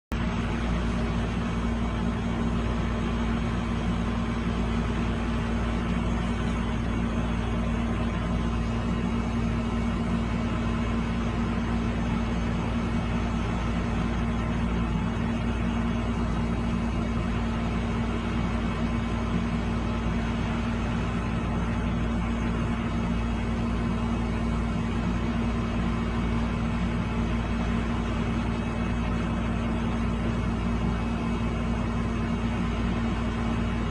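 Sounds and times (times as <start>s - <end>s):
steady machine hum: 0.1s - 33.9s.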